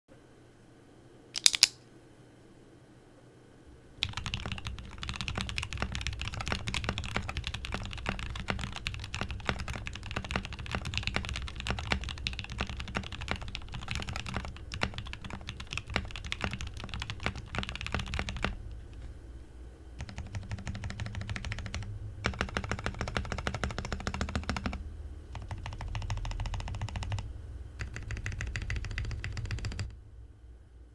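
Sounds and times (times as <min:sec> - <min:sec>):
fast typing on mechanical keyboard: 0:01.4 - 0:01.7, 0:04.0 - 0:19.1, 0:20.0 - 0:29.9.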